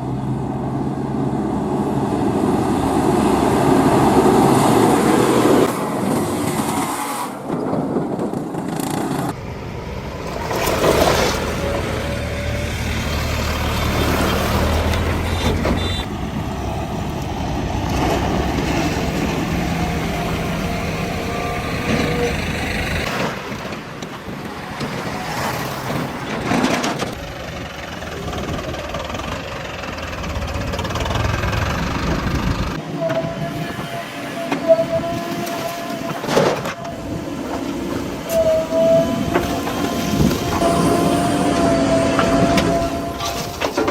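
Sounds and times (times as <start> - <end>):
heavy machinery diesel engines: 0.0 - 43.9.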